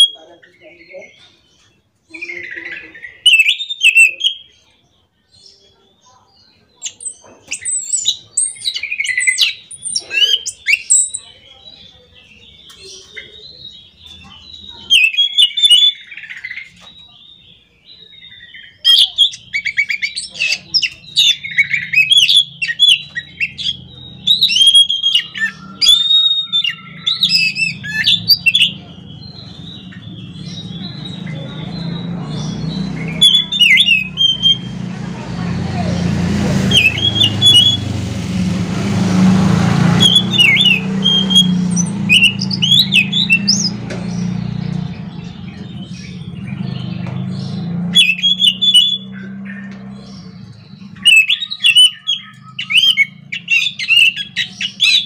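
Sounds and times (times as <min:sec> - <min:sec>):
thrush singing: 0:06.8 - 0:55.0.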